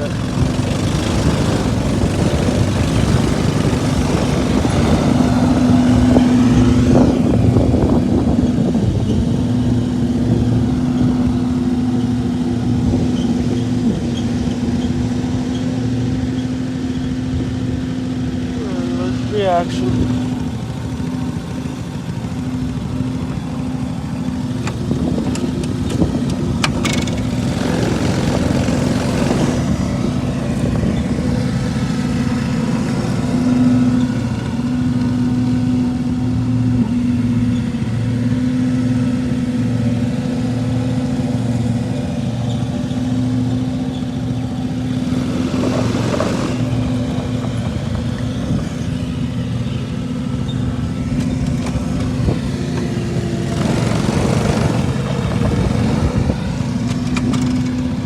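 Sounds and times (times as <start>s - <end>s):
lawn mower engine humming: 0.0s - 58.0s.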